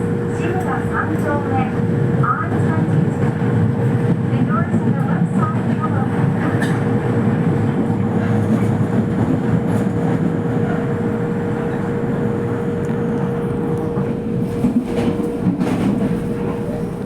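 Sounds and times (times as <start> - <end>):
constant hum: 0.0 - 17.0
train wheels rumbling: 0.0 - 17.0.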